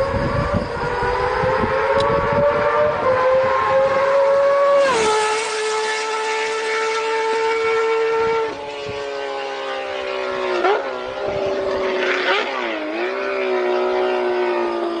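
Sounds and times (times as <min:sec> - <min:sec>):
motorcycle engine howling at high revs: 0:00.0 - 0:15.0.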